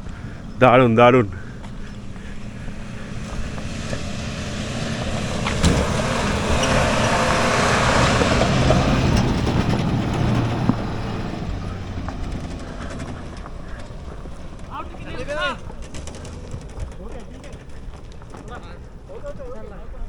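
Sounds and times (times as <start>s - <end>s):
vehicle engine running: 0.0s - 19.3s.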